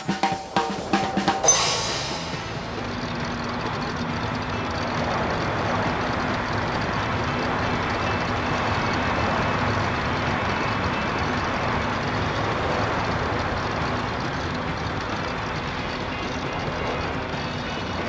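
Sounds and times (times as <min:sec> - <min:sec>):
road rumble: 0:02.2 - 0:18.0
van engine hum: 0:02.3 - 0:18.0.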